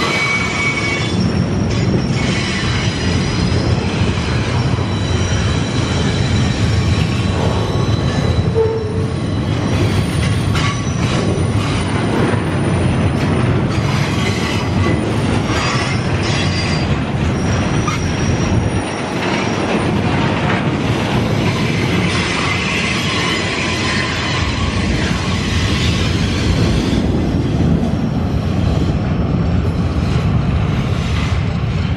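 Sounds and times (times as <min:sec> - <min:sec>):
wheels rumbling on track: 0:00.0 - 0:31.9.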